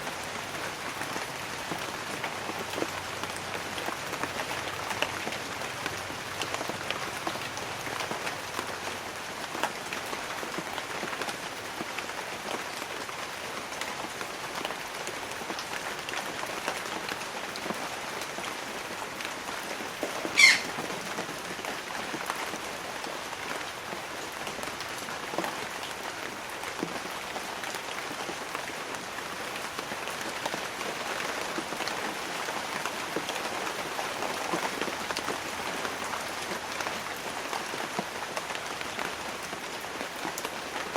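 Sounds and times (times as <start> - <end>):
light rain on leaves: 0.0 - 40.9.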